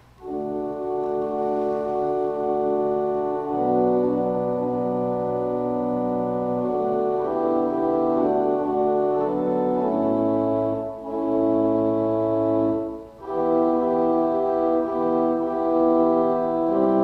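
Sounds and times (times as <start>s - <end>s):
church organ chords: 0.0s - 17.0s
low organ pedal note: 0.2s - 17.0s.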